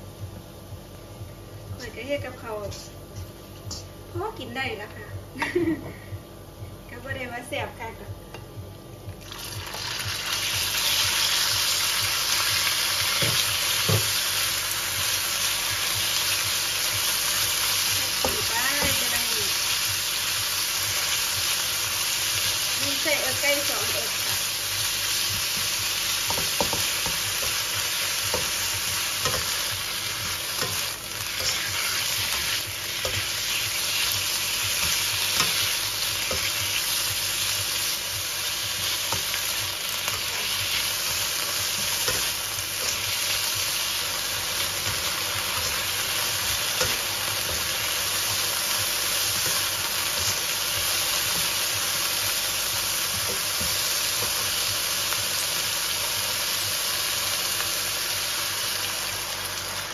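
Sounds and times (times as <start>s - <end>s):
chicken sizzling in hot oil: 9.2s - 59.9s.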